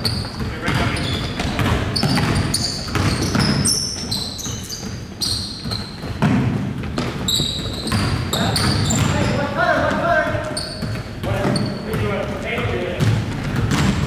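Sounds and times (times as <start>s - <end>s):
basketball bouncing: 0.0s - 14.0s
sneakers squeaking on floor: 0.0s - 14.0s.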